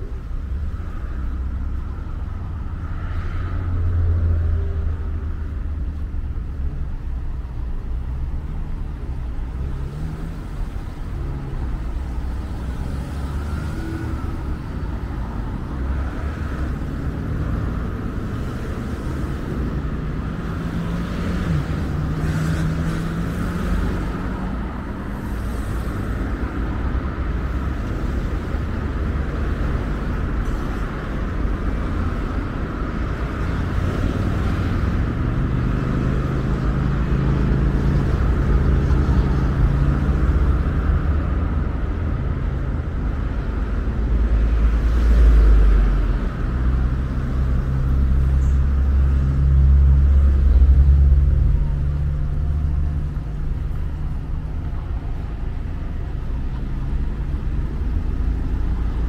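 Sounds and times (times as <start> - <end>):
cars driving by: 0.0 - 59.0.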